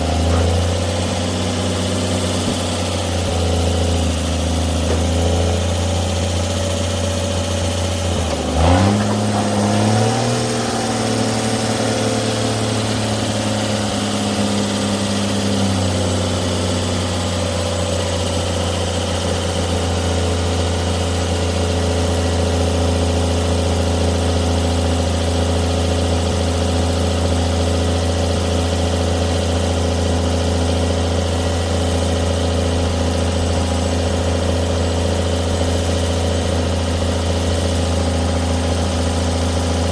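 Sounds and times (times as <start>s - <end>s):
truck engine idling and revving: 0.0s - 39.9s.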